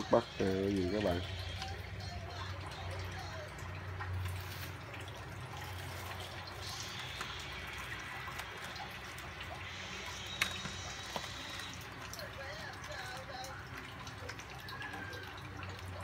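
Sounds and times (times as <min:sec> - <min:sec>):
water boiling and bubbling: 0:00.0 - 0:16.0.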